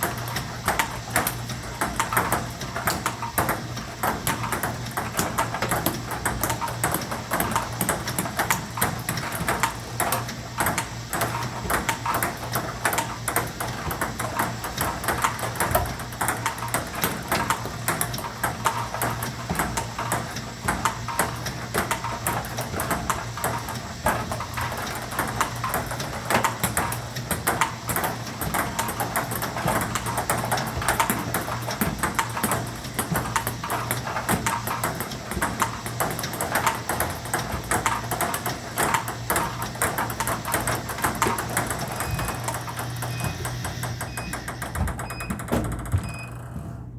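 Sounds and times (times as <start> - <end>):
ping-pong ball clicks: 0.0 - 46.0.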